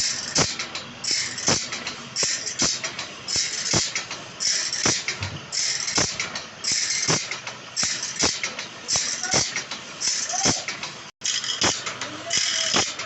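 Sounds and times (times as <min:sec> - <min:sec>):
metal cutting strokes: 0:00.0 - 0:13.0.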